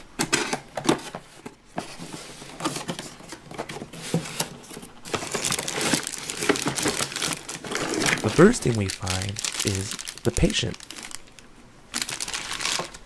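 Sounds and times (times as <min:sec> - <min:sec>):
hand rummaging in cardboard box: 0:00.3 - 0:11.2, 0:12.0 - 0:13.0.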